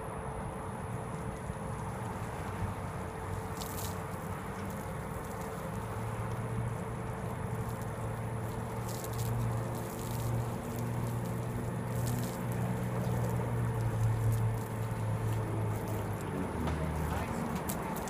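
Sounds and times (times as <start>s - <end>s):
steady low hum: 0.0s - 18.0s
hose water spraying on car: 0.3s - 18.0s.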